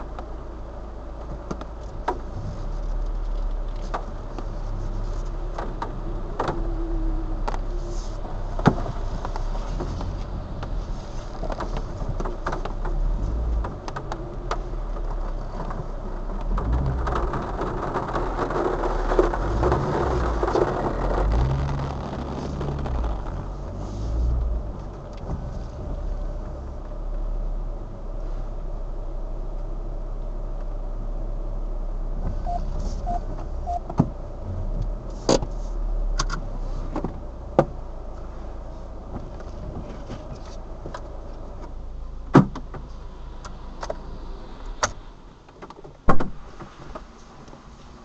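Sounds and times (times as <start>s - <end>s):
car engine and tyre noise: 0.0s - 48.0s.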